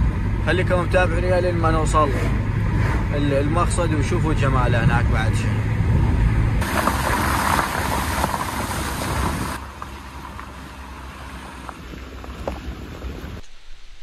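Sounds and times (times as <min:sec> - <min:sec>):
car engine rumbling: 0:00.0 - 0:14.0
tyres on wet road: 0:00.0 - 0:14.0.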